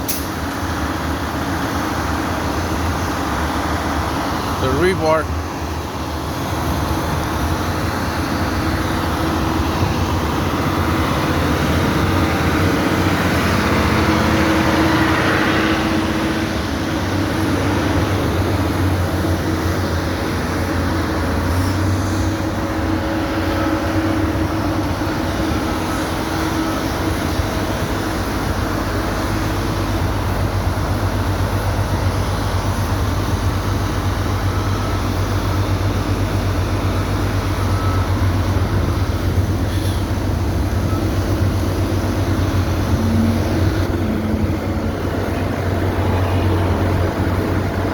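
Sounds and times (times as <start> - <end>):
engine rumble: 0.0 - 47.9.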